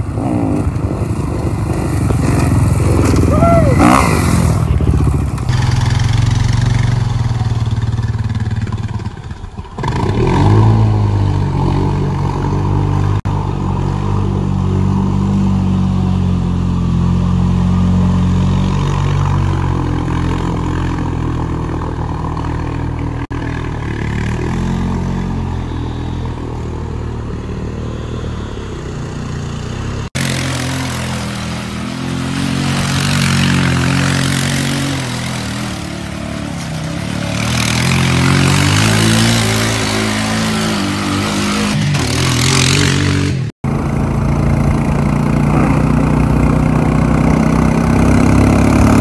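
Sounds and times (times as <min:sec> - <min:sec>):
atv engine revving: 0:00.0 - 0:49.0.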